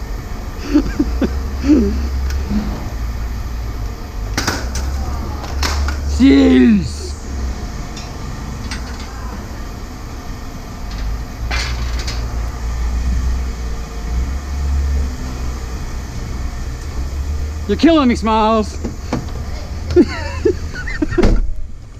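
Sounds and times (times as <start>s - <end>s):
low vehicle rumble: 0.0s - 21.9s.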